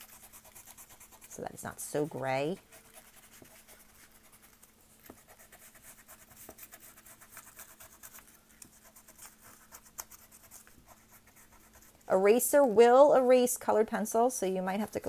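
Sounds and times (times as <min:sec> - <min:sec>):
pencil eraser rubbing on paper: 0:00.0 - 0:12.2.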